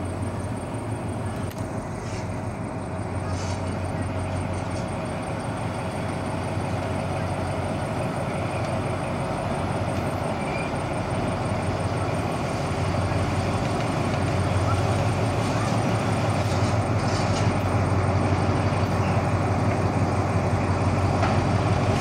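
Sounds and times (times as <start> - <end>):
locomotive engine hum: 0.0 - 22.0
train rumble: 0.0 - 22.0.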